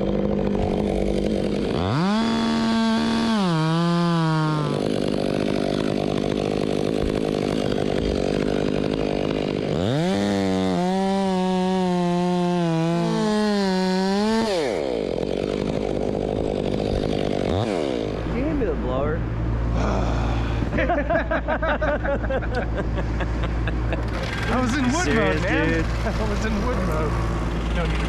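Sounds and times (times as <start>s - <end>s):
chainsaw cutting wood: 0.0s - 18.6s, 19.7s - 21.1s, 21.9s - 28.0s.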